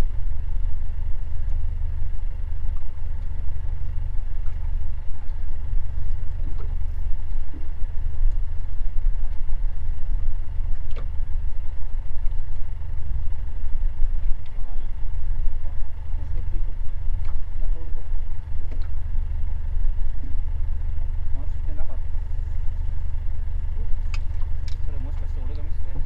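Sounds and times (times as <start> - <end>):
boat engine idling: 0.0 - 26.0
faint steady hum: 0.0 - 26.0.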